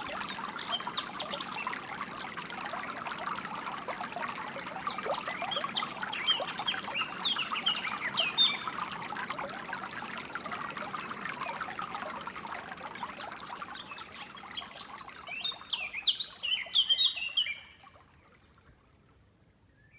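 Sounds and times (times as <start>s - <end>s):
stream water trickling: 0.0s - 19.9s.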